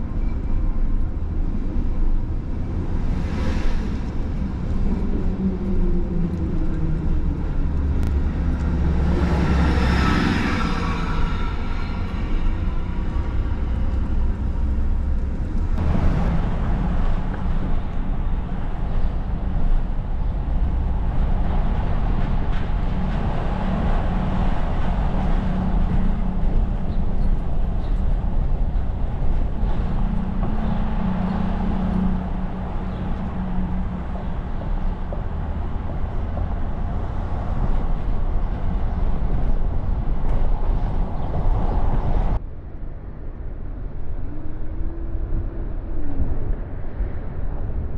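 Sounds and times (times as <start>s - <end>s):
low hum: 0.0s - 47.9s
low rumble of traffic: 0.0s - 47.9s.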